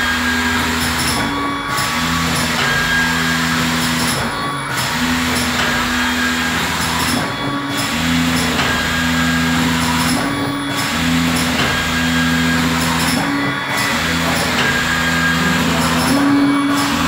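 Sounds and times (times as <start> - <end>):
packaging machine humming: 0.0 - 17.0.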